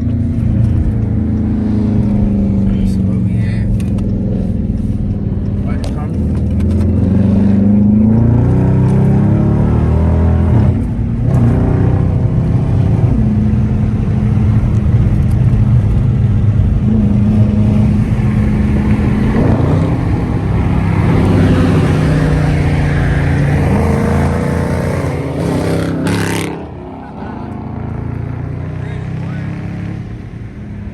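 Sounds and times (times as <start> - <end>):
car engine exhaust drone: 0.0 - 30.9.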